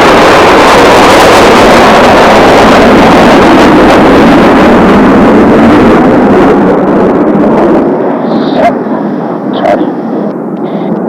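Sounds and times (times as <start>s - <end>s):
jet aircraft roar flying over: 0.0s - 11.0s.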